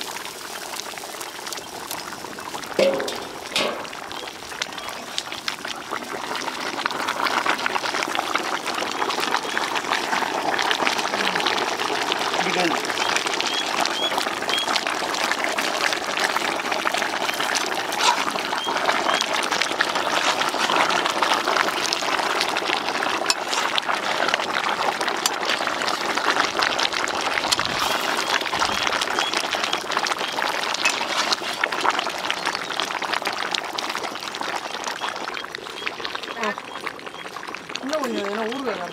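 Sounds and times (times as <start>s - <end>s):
gravy bubbling and sizzling: 0.0s - 38.9s.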